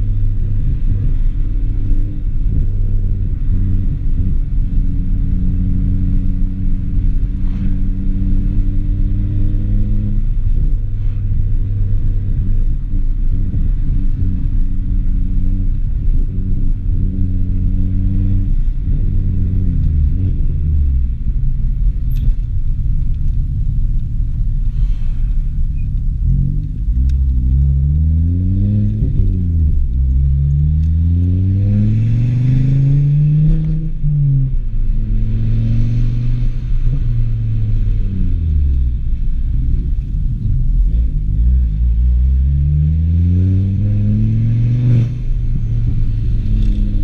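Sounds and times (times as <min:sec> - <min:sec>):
car engine droning: 0:00.0 - 0:47.0.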